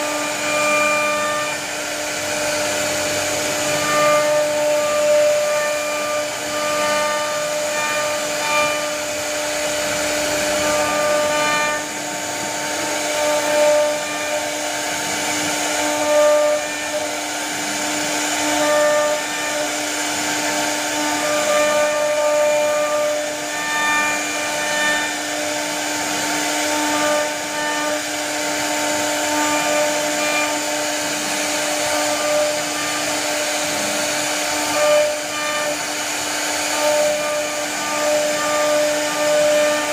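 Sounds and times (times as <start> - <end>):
router spindle carving wood: 0.0 - 39.9.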